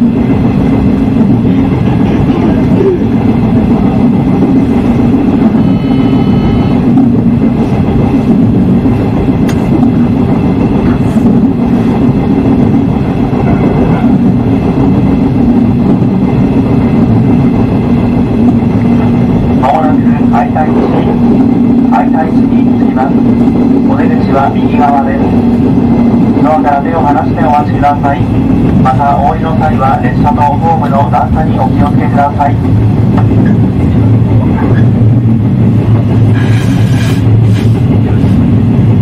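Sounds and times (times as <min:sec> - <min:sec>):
electric train humming: 0:00.0 - 0:39.0
track rumble: 0:00.0 - 0:39.0.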